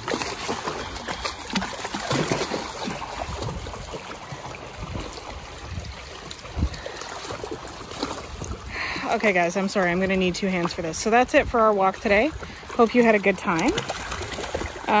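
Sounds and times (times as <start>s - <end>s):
splashes of wading feet: 0.0s - 15.0s
stream running over rocks: 0.0s - 15.0s.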